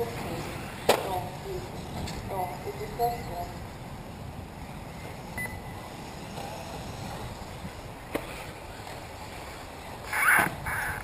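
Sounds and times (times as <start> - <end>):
low open-air rumble: 0.0 - 11.0.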